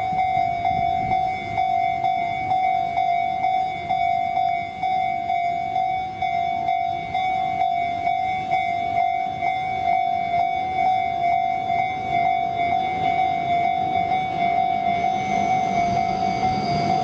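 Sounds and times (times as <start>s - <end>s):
approaching train: 0.0s - 17.0s
level crossing warning bell: 0.0s - 17.0s.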